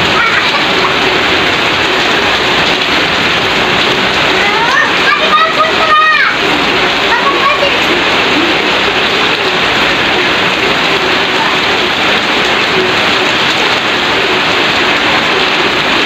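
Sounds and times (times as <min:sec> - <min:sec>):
heavy rain on floodwater: 0:00.0 - 0:16.0.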